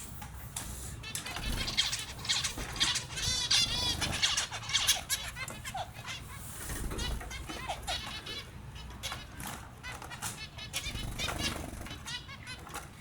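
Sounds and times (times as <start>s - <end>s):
finches chirping: 0.9s - 13.0s.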